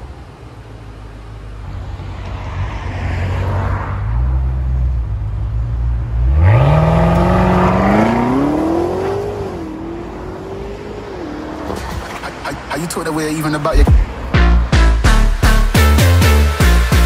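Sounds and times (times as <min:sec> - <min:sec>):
car engine rumbling and accelerating: 0:00.0 - 0:17.0.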